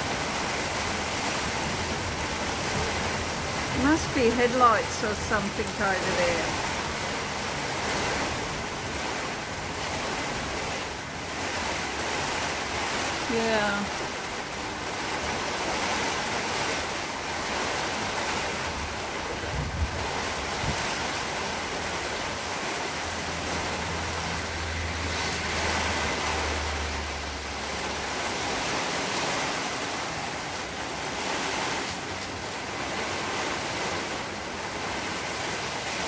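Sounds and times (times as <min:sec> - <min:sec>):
rain falling steadily: 0:00.0 - 0:36.0.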